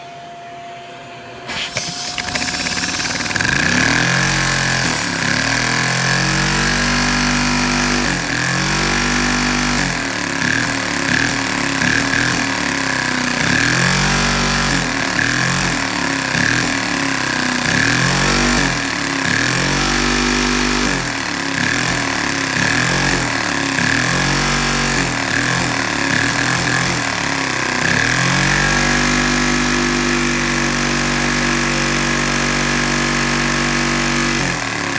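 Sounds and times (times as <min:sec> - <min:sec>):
vacuum cleaner motor whine: 0:00.0 - 0:34.9.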